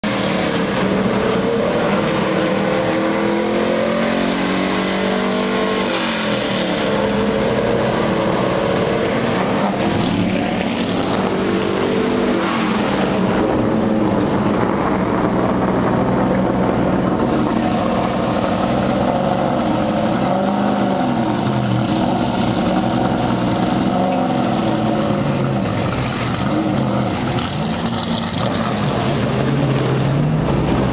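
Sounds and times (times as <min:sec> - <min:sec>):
race car engines rumbling: 0:00.0 - 0:30.9.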